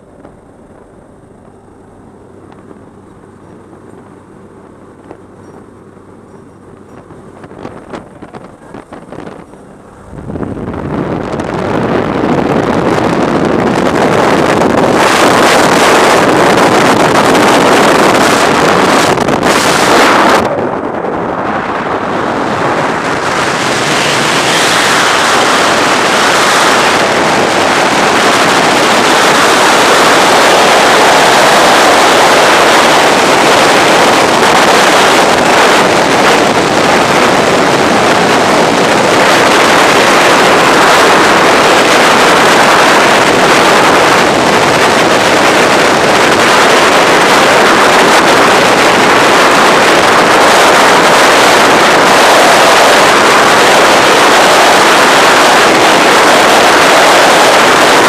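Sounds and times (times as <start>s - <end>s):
muffled aircraft cabin hum: 0.0s - 58.0s
wind rushing over camera: 0.0s - 58.0s.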